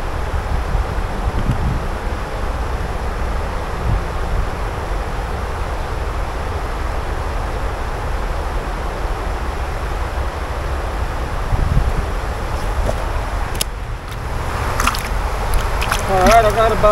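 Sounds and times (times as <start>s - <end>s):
wind on microphone: 0.0s - 16.9s.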